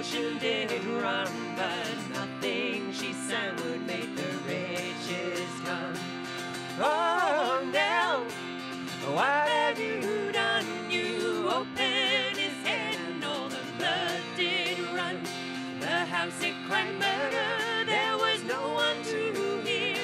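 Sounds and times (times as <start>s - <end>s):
acoustic folk music: 0.0s - 20.0s.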